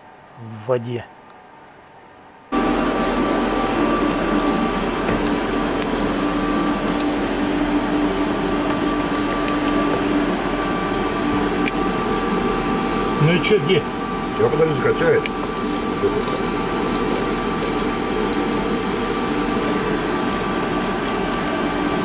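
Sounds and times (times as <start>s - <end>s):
machine hum and whir: 1.1s - 22.0s.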